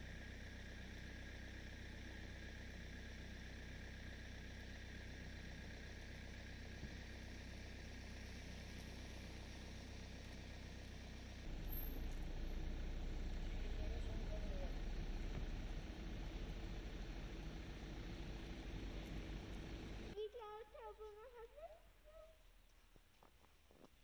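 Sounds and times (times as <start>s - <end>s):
engine idling: 0.0s - 22.5s.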